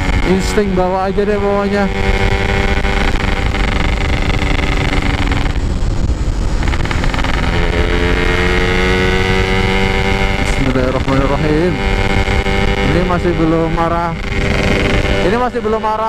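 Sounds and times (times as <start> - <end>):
two-stroke motorcycle engine running: 0.0 - 16.0.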